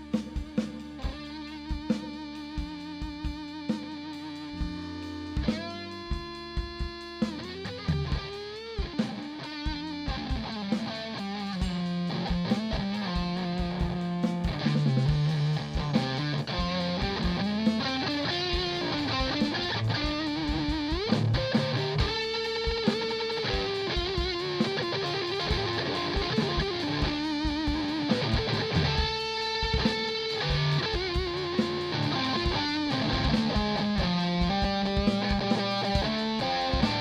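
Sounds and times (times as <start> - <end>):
drum beat: 0.0 - 37.0
electric guitar melody: 0.0 - 37.0.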